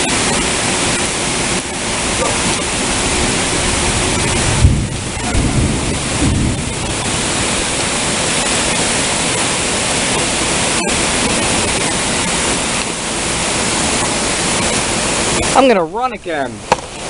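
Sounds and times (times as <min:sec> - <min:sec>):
torrential rain pouring: 0:00.0 - 0:17.0.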